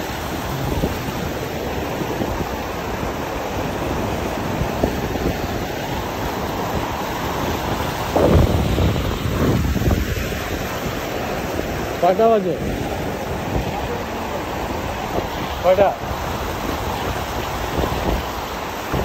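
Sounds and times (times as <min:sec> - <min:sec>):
water splashing against rocks: 0:00.0 - 0:19.0
wind on microphone: 0:00.0 - 0:19.0.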